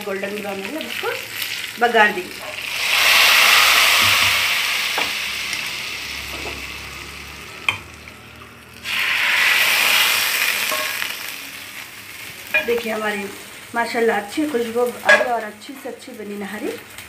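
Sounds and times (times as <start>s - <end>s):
hot oil sizzling in a pot: 0.0s - 17.0s.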